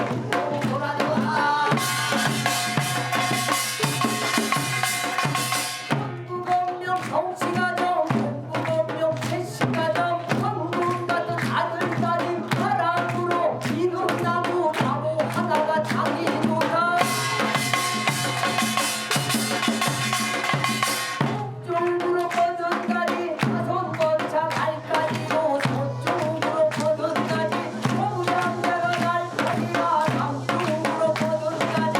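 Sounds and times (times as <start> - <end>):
music with steady drum beat: 0.0 - 31.9.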